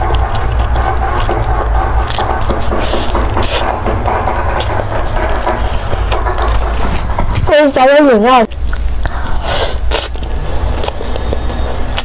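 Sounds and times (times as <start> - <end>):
biting and chewing pastry: 0.0 - 7.4, 8.5 - 12.0
steady low hum: 0.0 - 12.0.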